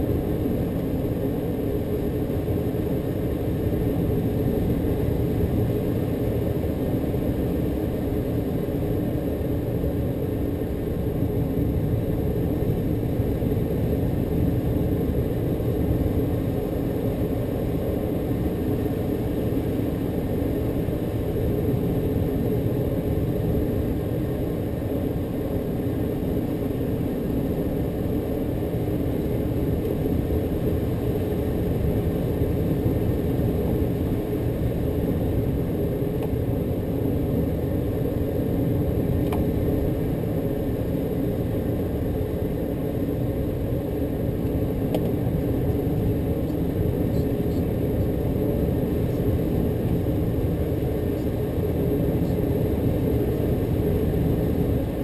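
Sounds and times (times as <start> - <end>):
airflow rumble: 0.0 - 55.0
small aircraft engine droning: 0.0 - 55.0.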